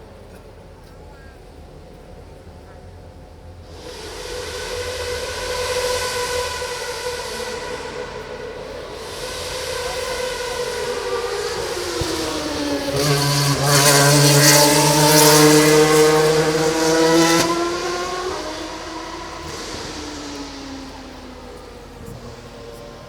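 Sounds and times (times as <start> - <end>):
racing car engine passing: 0.0 - 23.0.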